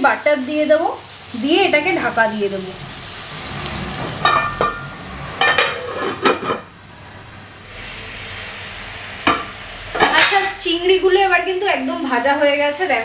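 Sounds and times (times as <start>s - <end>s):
prawns sizzling in butter: 0.0s - 6.7s, 7.4s - 13.0s.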